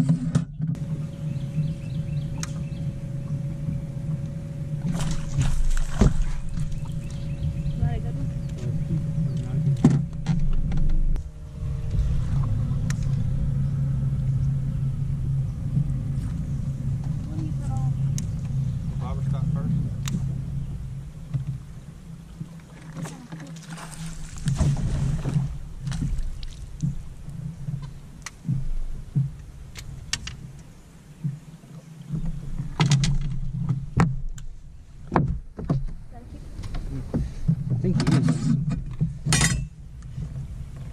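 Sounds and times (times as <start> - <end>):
knocks and clicks on boat deck: 0.0 - 13.3, 21.2 - 40.9
electric trolling motor humming: 0.0 - 40.9.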